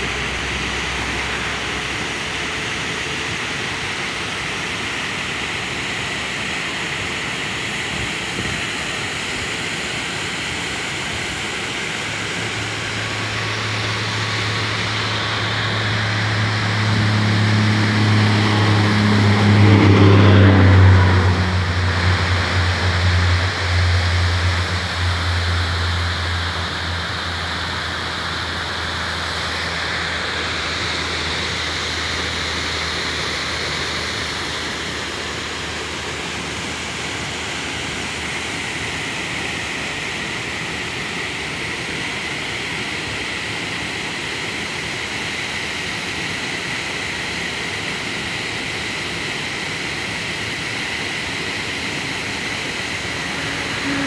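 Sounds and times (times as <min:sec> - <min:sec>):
waterfall rushing: 0:00.0 - 0:19.6, 0:20.7 - 0:54.0
low vehicle engine hum: 0:00.0 - 0:54.0.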